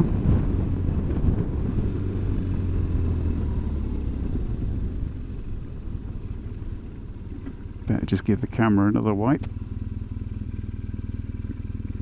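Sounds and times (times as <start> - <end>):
motorcycle engine droning: 0.0 - 12.0.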